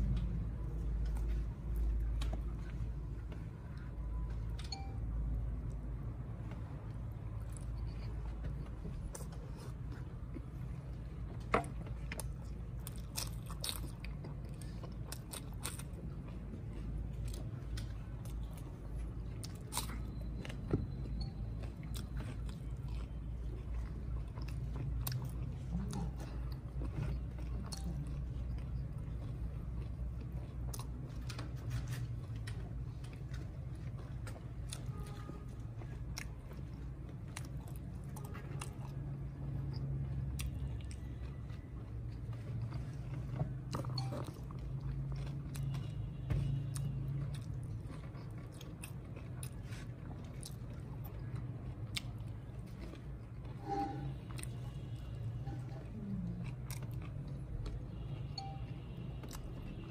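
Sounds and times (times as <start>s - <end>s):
wet chewing and mouth clicks: 5.6s - 59.9s.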